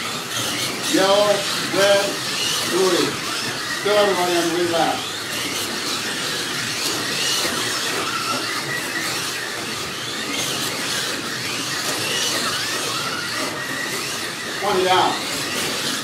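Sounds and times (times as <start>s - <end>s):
slot car motors whining: 0.0s - 16.0s.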